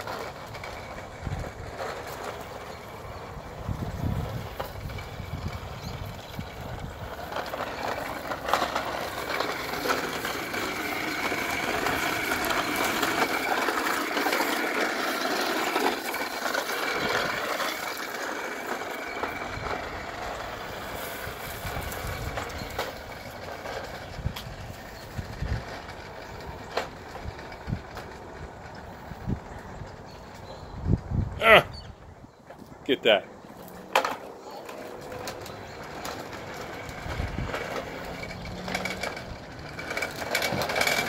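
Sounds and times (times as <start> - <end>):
toy lawnmower clattering on paving: 0.0 - 31.6, 32.3 - 41.0.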